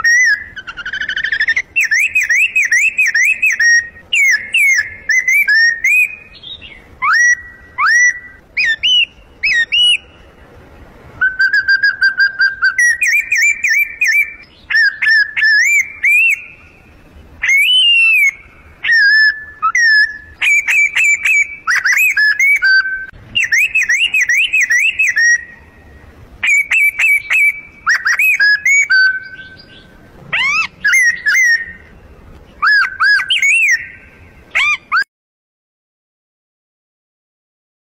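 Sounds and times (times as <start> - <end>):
leaf whistle bird calls: 0.0 - 10.5, 11.2 - 35.1.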